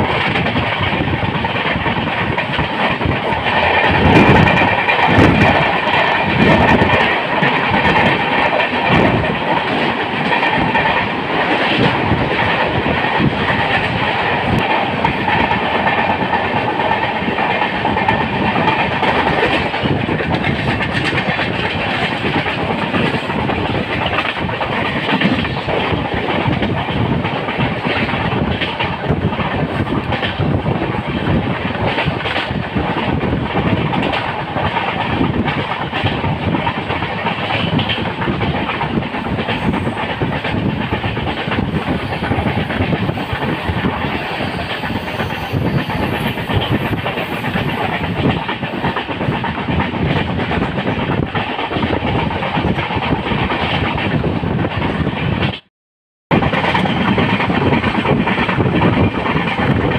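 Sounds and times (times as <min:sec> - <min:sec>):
wheels rumbling on rails: 0:00.0 - 0:55.6, 0:56.3 - 0:59.9.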